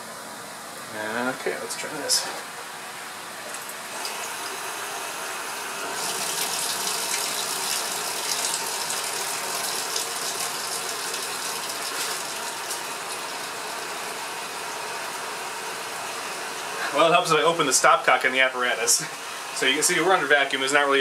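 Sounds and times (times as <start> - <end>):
water aspirator rushing and hissing: 3.4 - 21.0.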